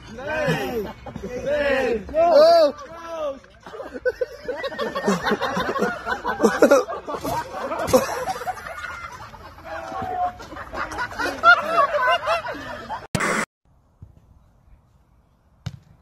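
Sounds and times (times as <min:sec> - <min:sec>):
men laughing hard: 0:00.3 - 0:13.1.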